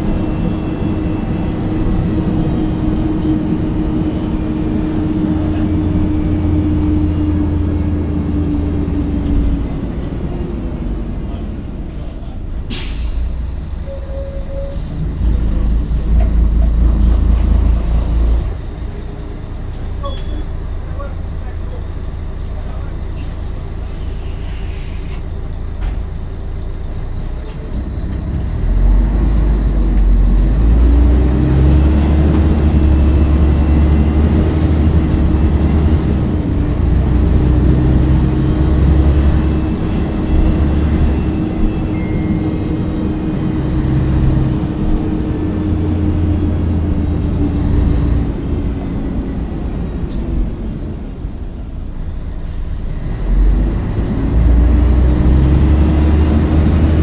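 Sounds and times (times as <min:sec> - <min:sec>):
bus diesel engine under load: 0:00.0 - 0:57.0.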